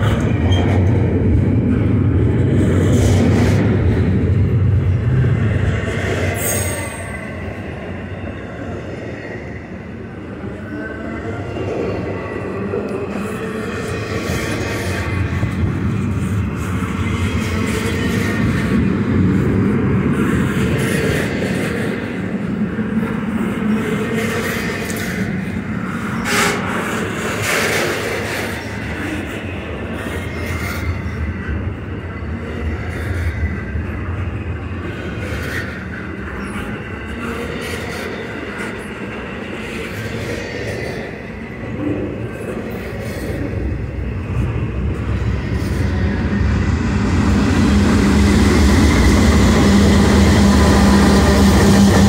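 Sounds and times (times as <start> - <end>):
diesel locomotive engine drone: 0.0 - 52.0.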